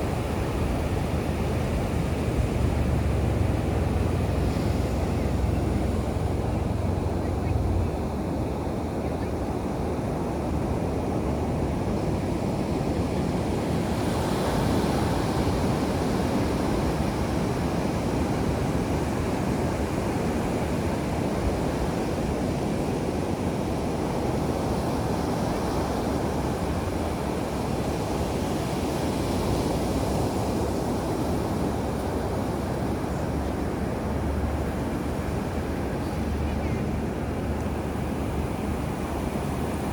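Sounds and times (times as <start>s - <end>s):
ocean surf washing onto beach: 0.0s - 39.9s.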